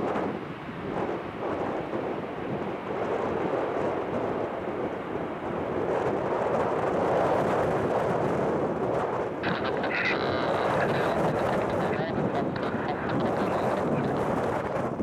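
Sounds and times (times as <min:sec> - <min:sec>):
deep jet engine roar: 0:00.0 - 0:15.0.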